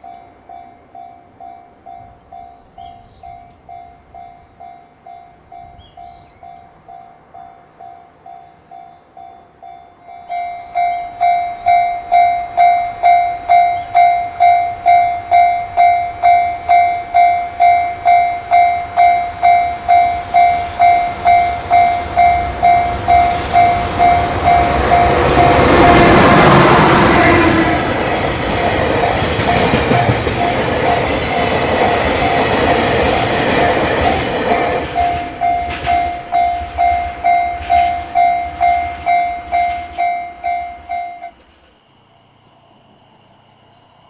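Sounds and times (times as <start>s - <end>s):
crossing warning bell dinging: 0.0s - 41.6s
freight train rumble: 0.0s - 44.0s.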